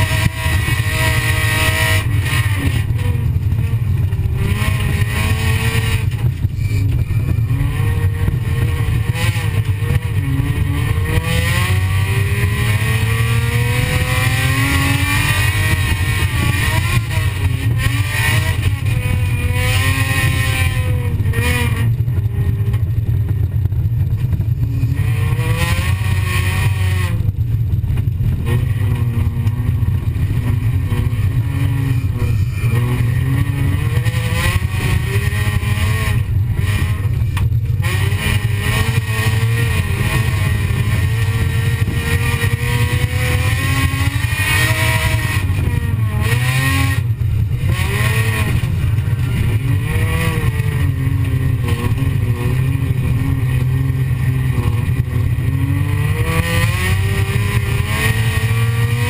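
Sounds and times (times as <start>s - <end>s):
car engine revving: 0.0s - 59.0s
heavy low rumble: 0.0s - 59.0s.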